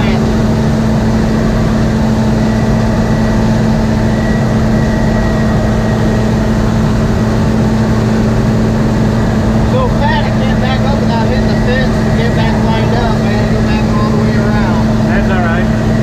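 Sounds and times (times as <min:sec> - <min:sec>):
diesel engine and machinery drone: 0:00.0 - 0:16.0.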